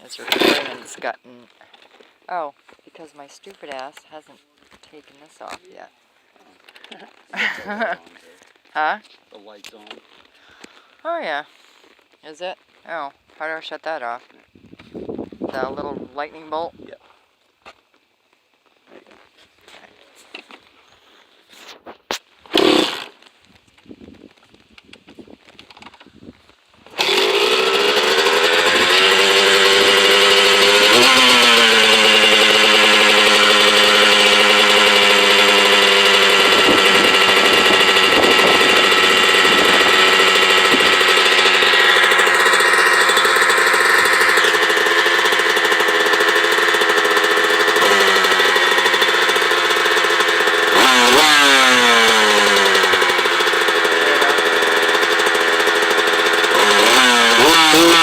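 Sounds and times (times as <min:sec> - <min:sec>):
dirt bike engine idling and revving: 0:00.0 - 0:05.9, 0:06.6 - 0:17.0, 0:22.4 - 0:58.0.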